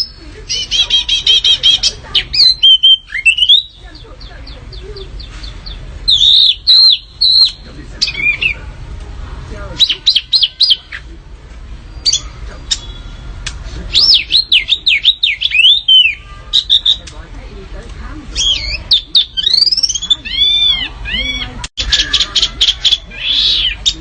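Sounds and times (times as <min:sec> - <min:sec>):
songbird chirping and whistling: 0:00.0 - 0:08.7, 0:09.8 - 0:11.2, 0:11.8 - 0:17.1, 0:18.4 - 0:24.0.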